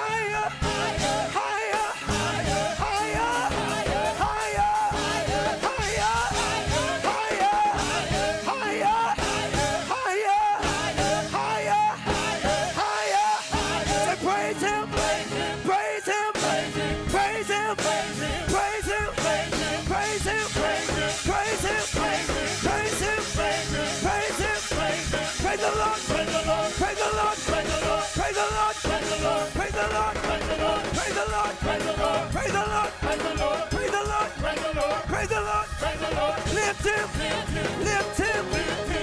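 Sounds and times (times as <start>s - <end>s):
live gospel band music: 0.0s - 39.0s
people singing: 0.0s - 39.0s
fast drum beat: 0.6s - 11.5s, 12.1s - 15.6s, 16.4s - 39.0s.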